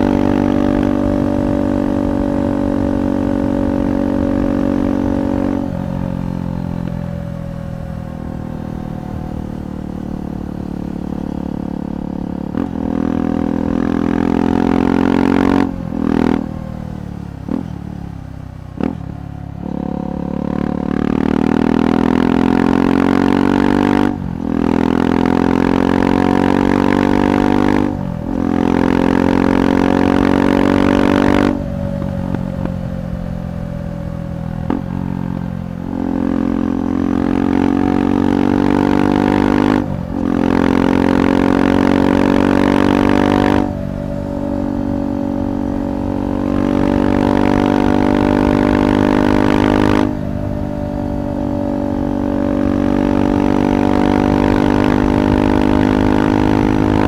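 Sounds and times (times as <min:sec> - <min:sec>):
motorcycle engine pulling under throttle: 0:00.0 - 0:57.0.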